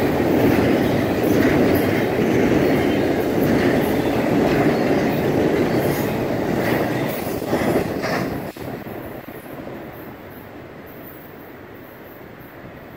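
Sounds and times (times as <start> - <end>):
train cars rumbling on rails: 0.0 - 12.9.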